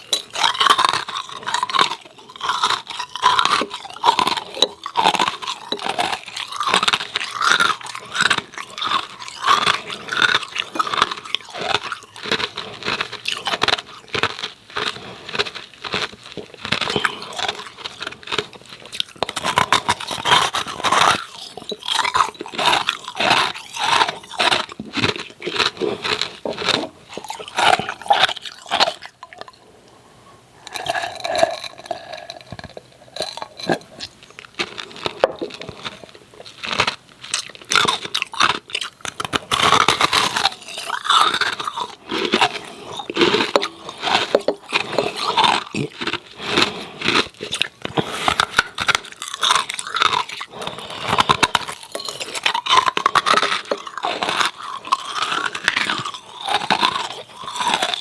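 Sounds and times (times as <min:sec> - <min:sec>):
ice cubes crunched and chewed: 0:00.0 - 0:29.7, 0:30.6 - 0:58.0.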